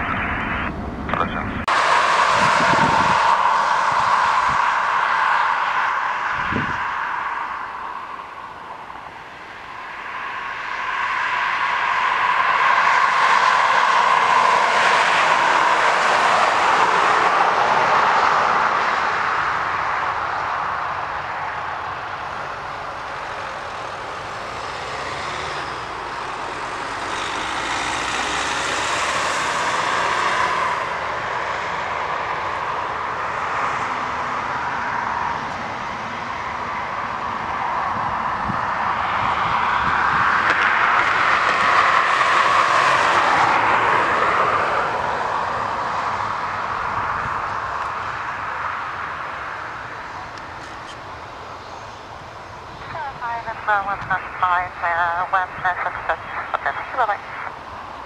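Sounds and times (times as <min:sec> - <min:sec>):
jet engine roar landing: 0:00.0 - 0:58.0
steady jet whine: 0:00.0 - 0:58.0.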